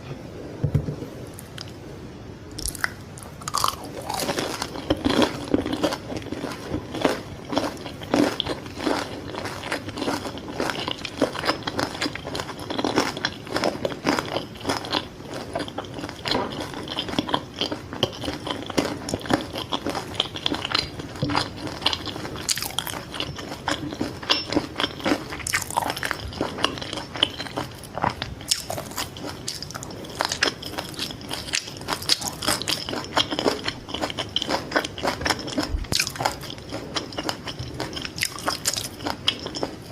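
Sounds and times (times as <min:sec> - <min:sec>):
wet chewing: 0:02.6 - 0:39.9.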